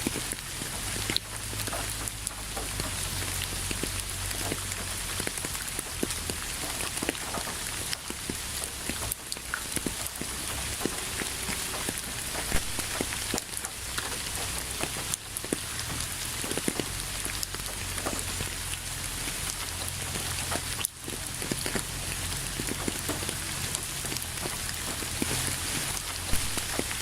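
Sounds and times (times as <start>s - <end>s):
rain on a hard surface: 0.0s - 27.0s.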